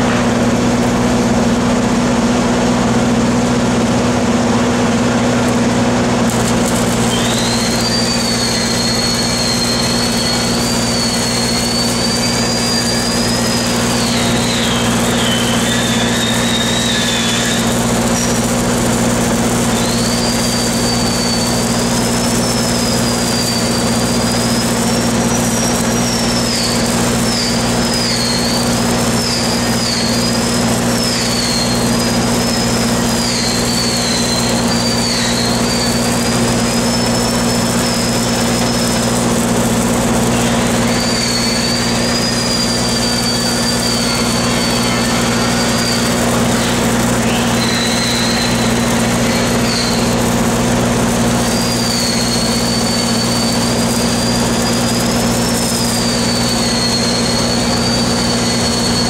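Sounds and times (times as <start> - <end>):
low engine drone: 0.0 - 51.4
arc welding hiss and crackle: 0.0 - 59.0
thin high whistle: 6.3 - 18.6, 19.4 - 50.5, 51.2 - 59.0.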